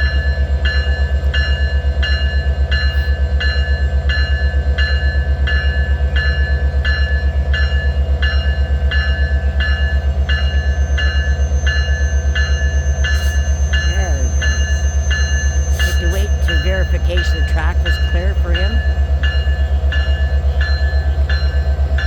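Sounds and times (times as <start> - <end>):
diesel locomotive rumble: 0.0 - 22.0
railway bell ringing: 0.0 - 22.0.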